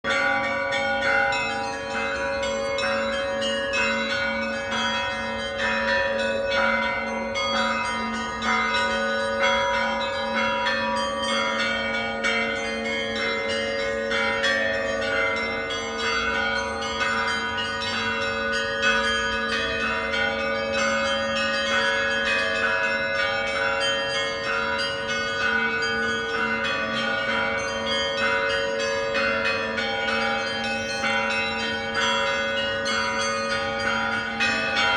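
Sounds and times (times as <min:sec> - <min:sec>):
large bells humming: 0:00.0 - 0:34.9
small church bells ringing: 0:00.0 - 0:34.9.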